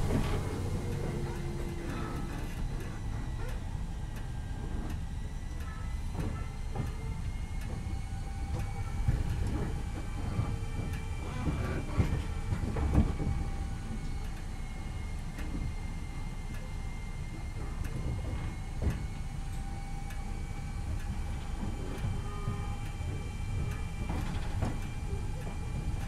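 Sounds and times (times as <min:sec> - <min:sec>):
electric train whine and rumble: 0:00.0 - 0:26.0
wheels clicking over rail joints: 0:00.0 - 0:26.0.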